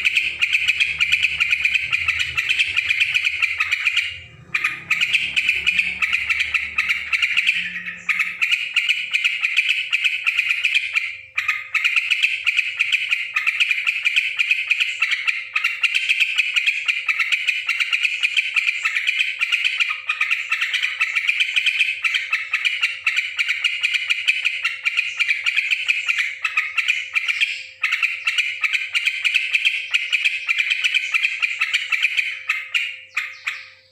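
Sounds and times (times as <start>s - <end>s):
bird rapid chattering calls: 0.0s - 33.9s.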